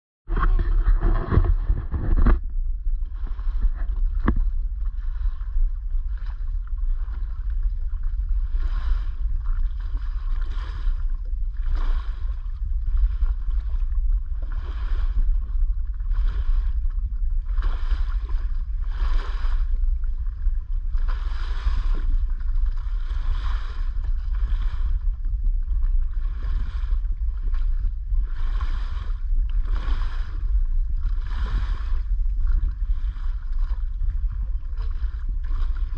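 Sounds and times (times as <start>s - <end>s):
low rumble: 0.2s - 35.9s
water washing against hull: 0.3s - 35.9s
wind buffeting microphone: 0.3s - 35.9s.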